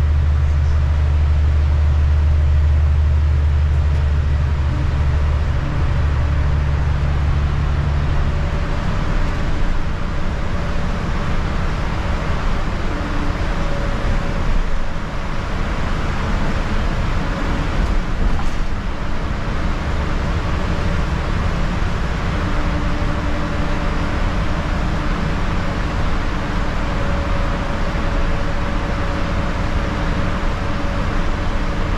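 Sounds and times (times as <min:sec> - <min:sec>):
bus engine drone: 0:00.0 - 0:31.9.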